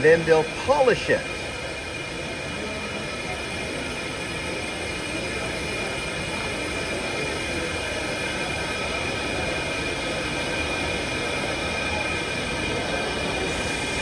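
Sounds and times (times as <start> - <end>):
faint high steady tones: 0.0 - 14.0
laser engraving machine whirring: 0.0 - 14.0.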